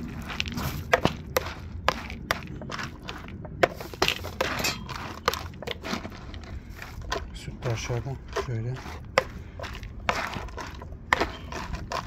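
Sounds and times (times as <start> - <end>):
dog food stirred in a bowl: 0.2 - 12.0.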